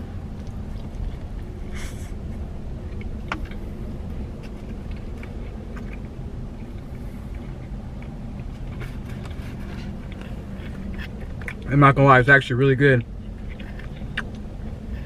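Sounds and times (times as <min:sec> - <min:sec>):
low car hum: 0:00.0 - 0:15.0
chewing with mouth clicks: 0:00.1 - 0:12.1, 0:13.0 - 0:15.0.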